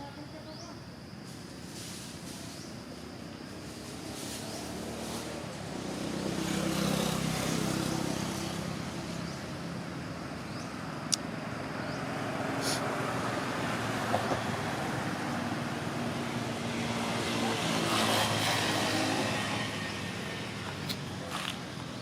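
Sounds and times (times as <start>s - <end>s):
vehicle engine humming: 3.3s - 22.0s.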